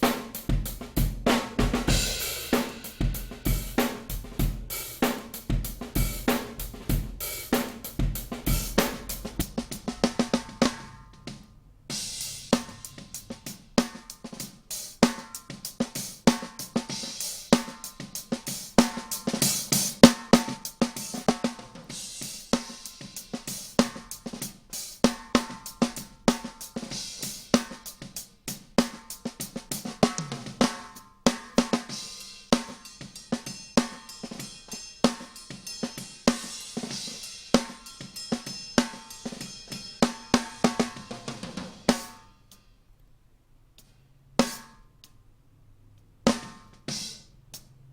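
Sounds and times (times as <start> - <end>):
drum kit playing a beat: 0.0 - 42.3, 44.4 - 44.8, 46.3 - 47.9.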